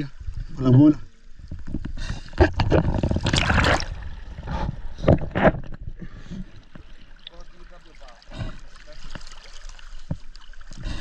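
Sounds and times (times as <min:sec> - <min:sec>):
water splashing and gurgling: 0:01.4 - 0:11.0.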